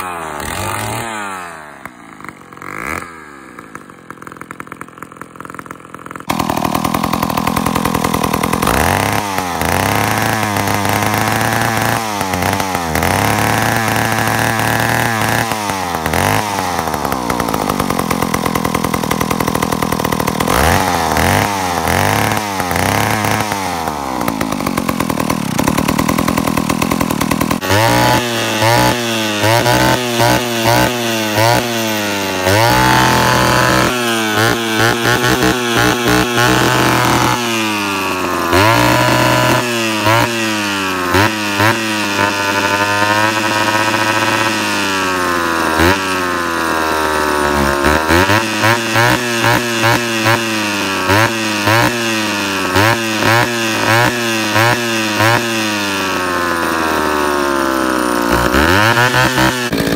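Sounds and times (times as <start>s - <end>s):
chainsaw blipped in short revs: 0.0s - 59.9s
chainsaw revving: 0.0s - 59.9s
two-stroke chainsaws running: 0.0s - 59.9s.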